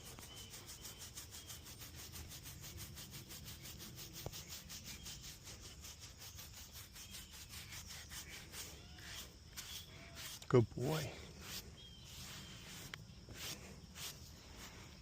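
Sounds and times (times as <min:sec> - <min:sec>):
brush strokes on animal coat: 0:00.0 - 0:15.0.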